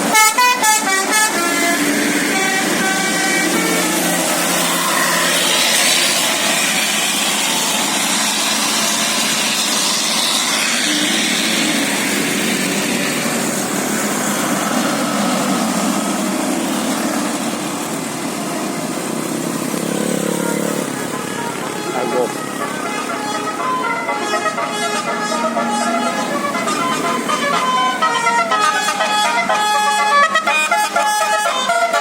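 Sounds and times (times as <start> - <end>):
road traffic noise: 0.0 - 32.0
vehicle engine running: 0.0 - 32.0.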